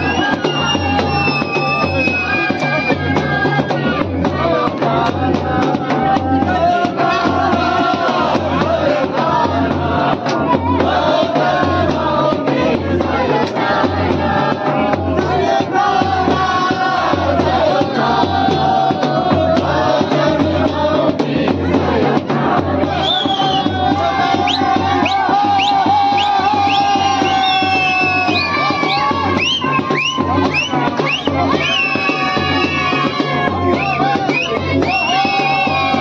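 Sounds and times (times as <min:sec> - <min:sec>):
large drum beating: 0:00.0 - 0:36.0.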